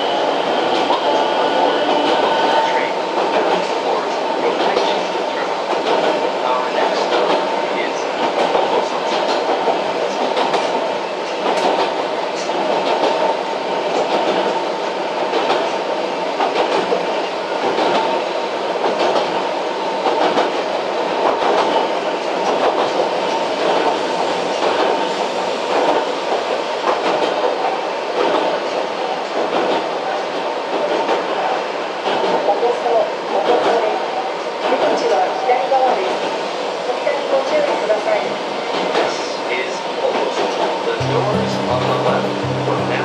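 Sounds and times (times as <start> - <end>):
train running noise: 0.0 - 43.0.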